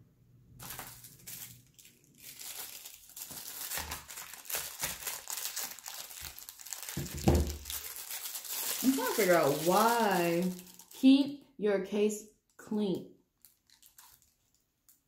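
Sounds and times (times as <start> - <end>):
packaging crinkling: 0.6 - 11.1, 13.3 - 15.0.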